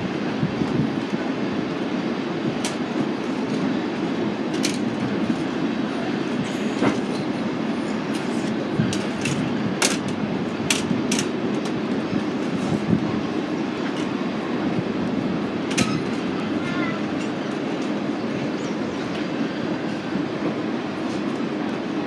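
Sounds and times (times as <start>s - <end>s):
train rumbling on track: 0.0s - 22.0s
wheels clicking on rails: 0.1s - 22.0s.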